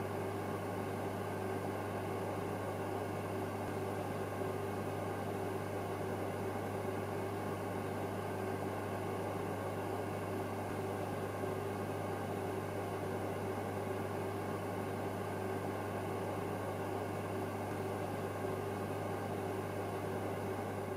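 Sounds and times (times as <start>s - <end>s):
low electrical hum: 0.0s - 20.9s.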